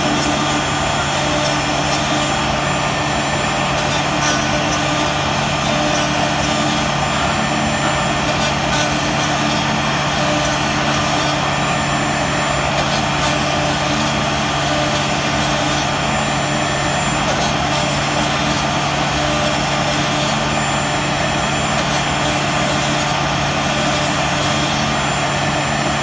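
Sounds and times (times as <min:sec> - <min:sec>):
router bit cutting wood: 0:00.0 - 0:26.0
router spindle humming: 0:00.0 - 0:26.0.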